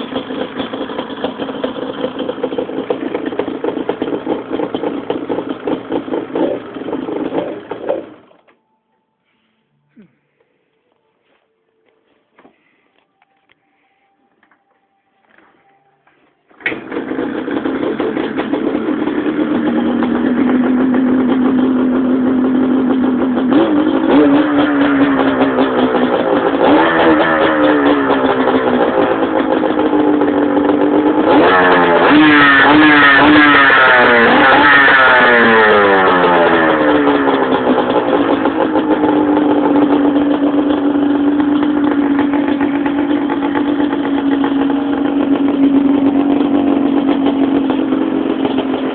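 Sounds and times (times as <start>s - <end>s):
two-stroke engine starting and revving: 0.0s - 8.6s, 16.5s - 48.9s.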